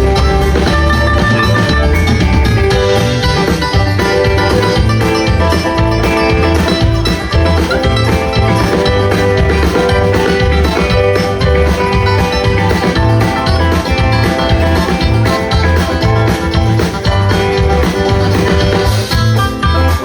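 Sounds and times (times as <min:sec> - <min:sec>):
bluegrass band playing: 0:00.0 - 0:20.0
plucked strings: 0:00.0 - 0:20.0
pulsing bass line: 0:00.0 - 0:20.0.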